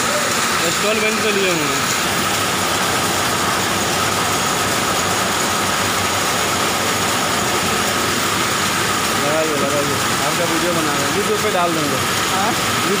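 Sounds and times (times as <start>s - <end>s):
constant machine whine: 0.0s - 13.0s.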